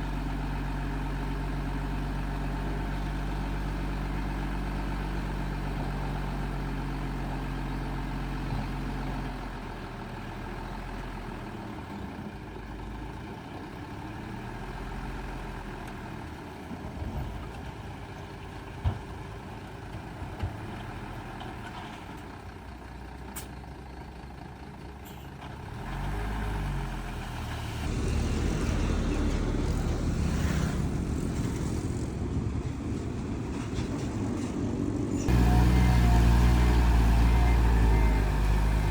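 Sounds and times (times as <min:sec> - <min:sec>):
heavy diesel machinery engines: 0:00.0 - 0:38.9.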